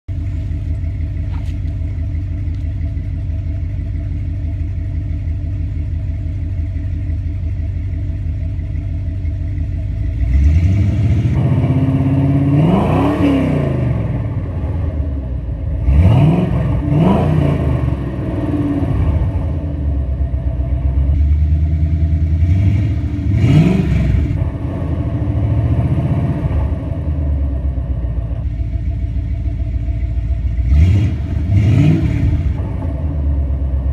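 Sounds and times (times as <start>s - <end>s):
engine idling and revving: 0.0s - 33.9s.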